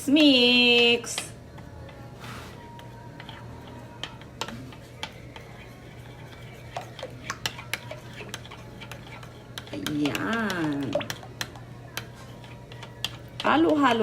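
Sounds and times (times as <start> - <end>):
utensil stirring in a bowl: 0.0 - 14.0
utensil clinking and scraping bowl: 0.2 - 14.0.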